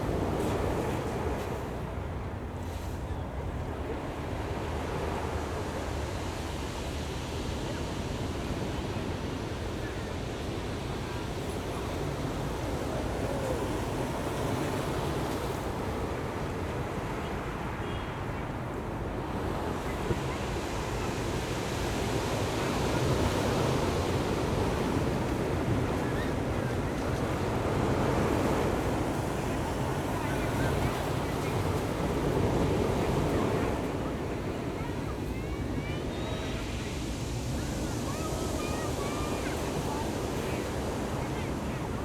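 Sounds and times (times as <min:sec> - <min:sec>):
ocean surf washing ashore: 0:00.0 - 0:42.0.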